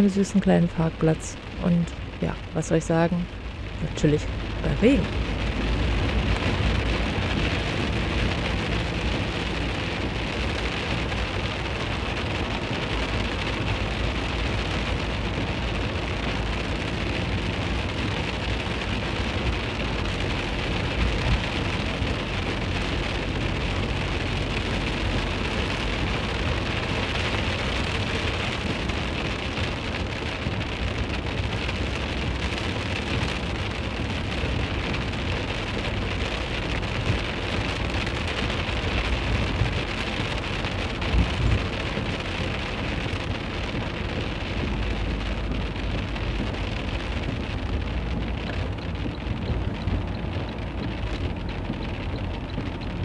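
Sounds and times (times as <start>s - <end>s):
rain on a van windscreen: 0.0s - 53.0s
van driving on wet road: 0.0s - 53.0s.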